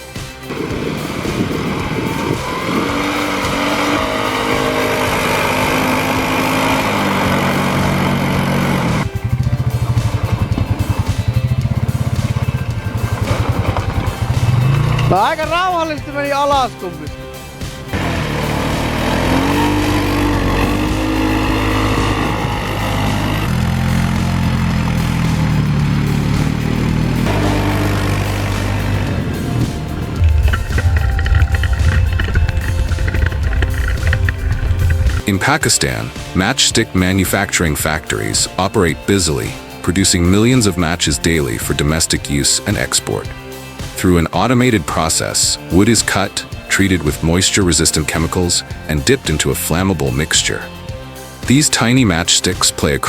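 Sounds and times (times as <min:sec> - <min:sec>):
snowmobile engine revving: 0:00.0 - 0:50.7.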